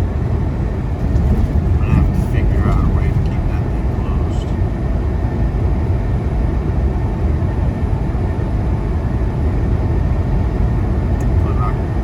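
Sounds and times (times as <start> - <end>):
truck engine rumble from inside cab: 0.0 - 12.0.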